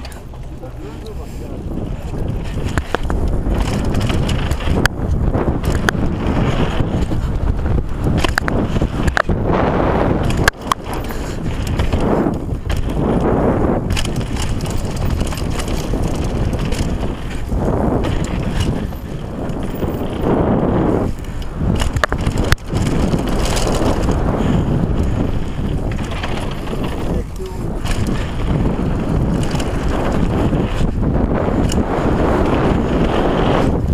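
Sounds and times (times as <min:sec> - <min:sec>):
bike rattling over bumps: 0:00.0 - 0:33.9
bike rolling over wooden boardwalk: 0:00.0 - 0:33.9
bike tyres crunching on gravel: 0:00.0 - 0:33.9.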